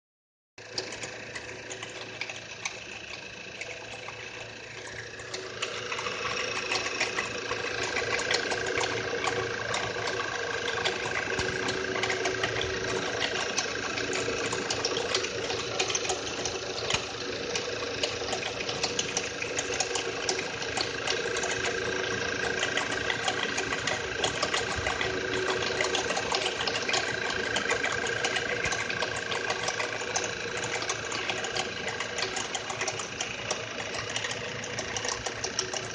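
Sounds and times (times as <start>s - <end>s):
car engine idling: 0.6s - 35.9s
ticking clatter from engine: 0.6s - 35.9s.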